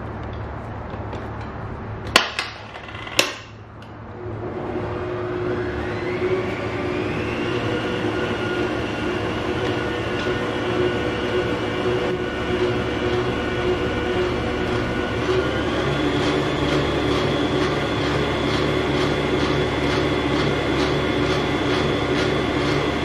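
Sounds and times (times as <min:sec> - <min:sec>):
stand mixer motor whirring: 0:04.2 - 0:23.0.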